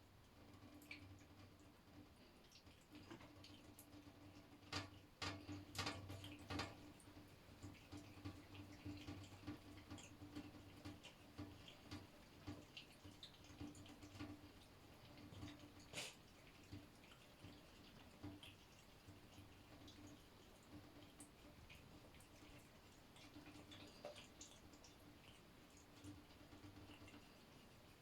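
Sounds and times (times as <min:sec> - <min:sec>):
faint steady hum: 0:00.0 - 0:28.0
water dripping in shower: 0:00.0 - 0:28.0.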